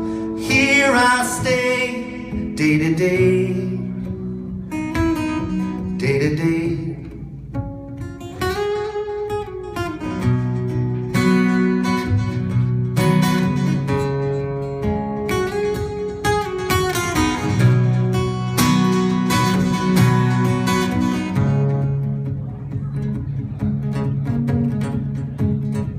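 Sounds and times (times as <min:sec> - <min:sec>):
acoustic guitar strumming: 0:00.0 - 0:25.9.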